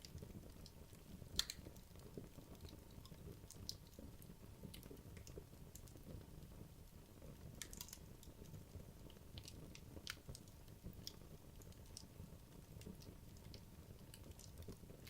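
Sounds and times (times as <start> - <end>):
logs burning in a fireplace: 0.0 - 15.0.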